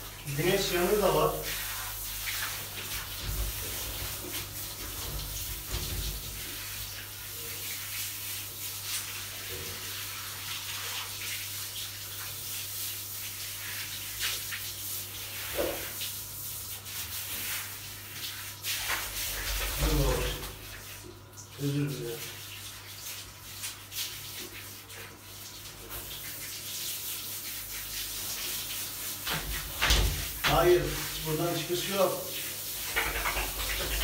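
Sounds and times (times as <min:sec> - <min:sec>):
shower water hissing: 0:00.0 - 0:34.0
water splashing: 0:00.0 - 0:34.0.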